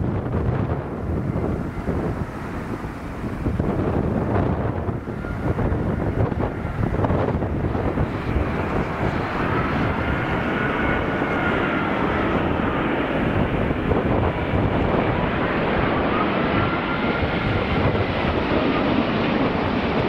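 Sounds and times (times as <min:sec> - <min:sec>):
jet engine rumble with fan whine: 0:00.0 - 0:20.0.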